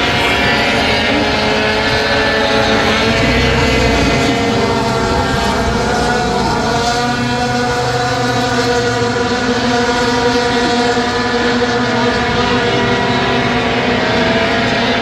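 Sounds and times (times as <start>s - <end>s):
race truck engines running: 0.0s - 15.0s.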